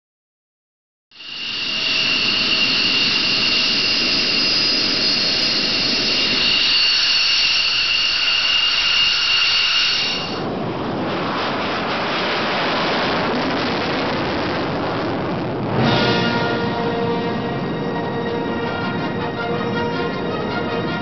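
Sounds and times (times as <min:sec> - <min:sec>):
jet engine rushing noise: 0:01.1 - 0:21.0
jet engine whine: 0:01.1 - 0:21.0.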